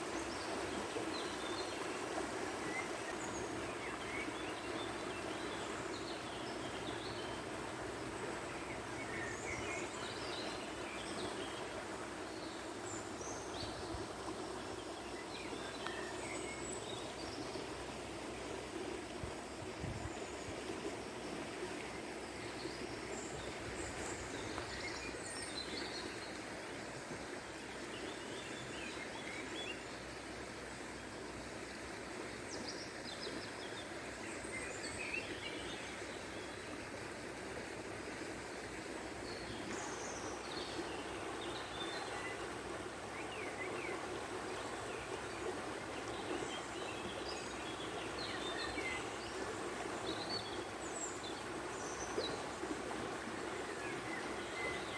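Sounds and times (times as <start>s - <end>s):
flowing water: 0.0s - 54.9s.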